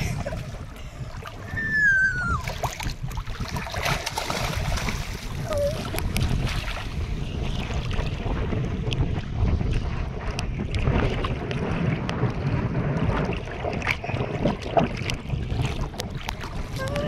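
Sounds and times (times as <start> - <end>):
water noise: 0.0 - 17.0
wind buffeting microphone: 0.0 - 17.0.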